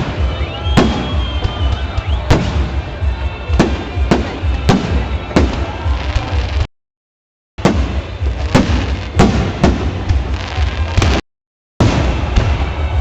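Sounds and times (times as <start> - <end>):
fireworks bangs: 0.0 - 6.7, 7.6 - 11.2, 11.8 - 13.0.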